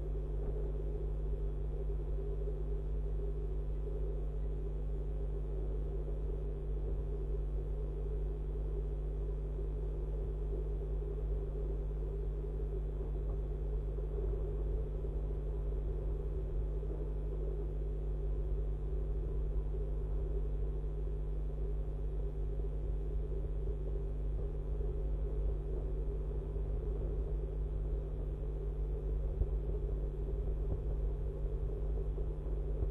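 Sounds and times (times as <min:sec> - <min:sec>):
low rumble with hum: 0:00.0 - 0:32.9.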